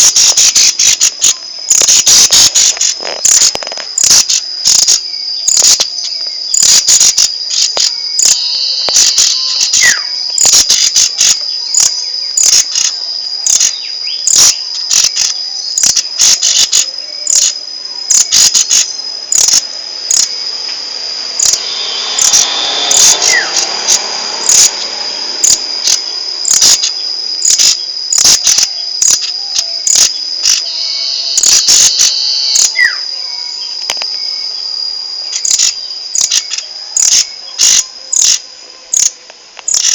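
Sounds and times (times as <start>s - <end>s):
high-pitched bird trill: 0.0s - 20.4s, 21.3s - 34.6s
songbird chip notes: 0.0s - 34.6s.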